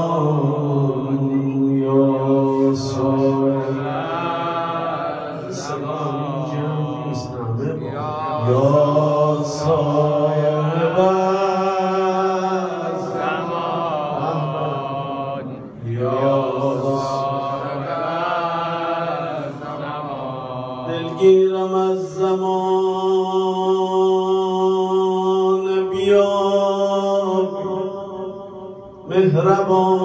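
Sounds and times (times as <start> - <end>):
man chanting: 0.0 - 30.0.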